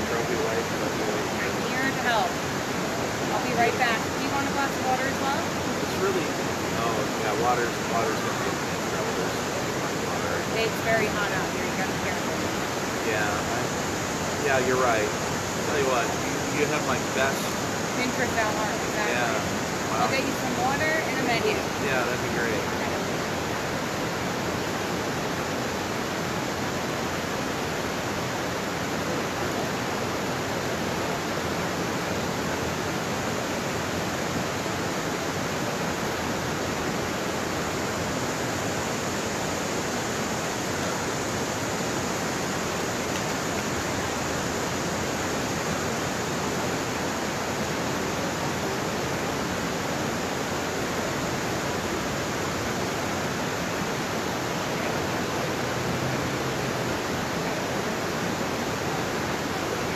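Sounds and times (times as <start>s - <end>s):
river rushing over waterfall and rapids: 0.0s - 59.9s.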